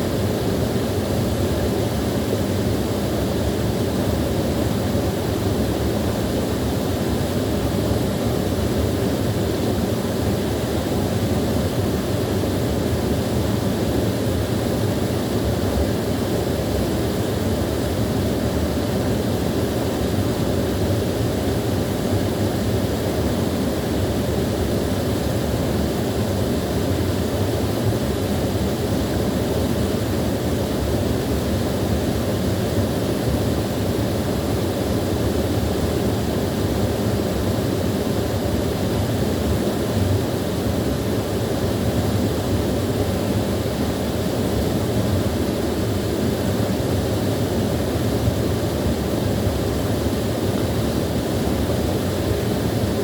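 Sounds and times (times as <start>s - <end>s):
small waterfall rushing: 0.0s - 53.0s.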